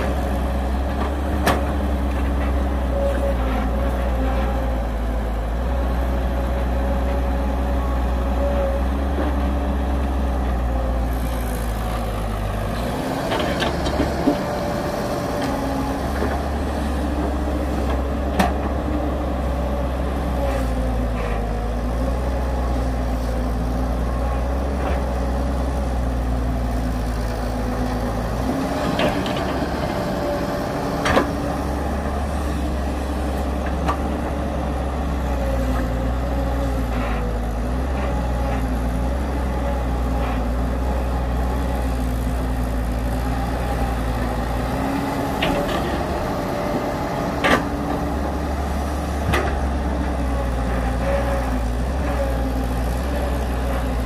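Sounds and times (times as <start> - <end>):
diesel machinery engine running: 0.0 - 54.0.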